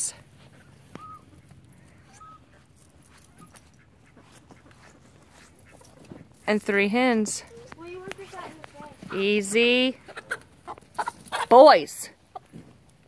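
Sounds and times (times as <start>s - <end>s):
young chickens calling: 0.0s - 6.4s, 7.4s - 13.0s.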